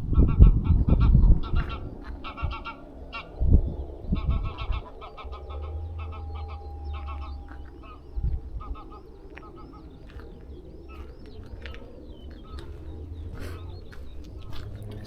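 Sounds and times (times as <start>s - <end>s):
geese honking: 0.0s - 15.0s
steady low hum: 0.0s - 15.0s.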